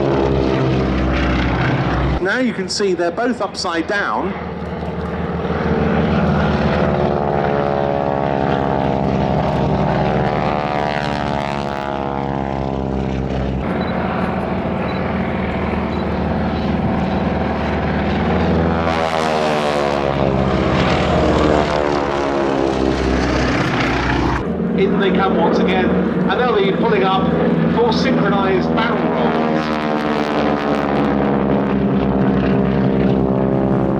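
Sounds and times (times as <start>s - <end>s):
biplane engines droning: 0.0s - 33.9s.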